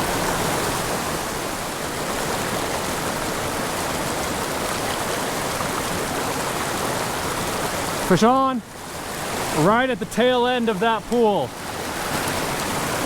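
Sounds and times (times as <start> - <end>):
creek rushing over boulders: 0.0 - 13.0.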